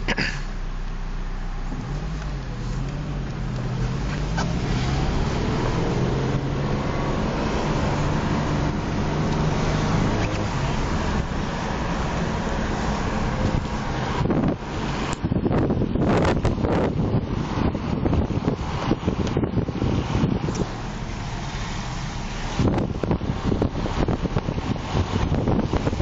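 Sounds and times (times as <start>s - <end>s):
car engine from inside cabin: 0.0s - 26.0s
road noise: 0.0s - 26.0s.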